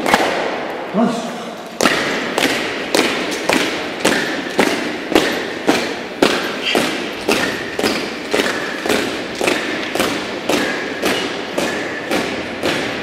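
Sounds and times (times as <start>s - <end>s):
boots marching on tiled floor: 2.3s - 13.0s.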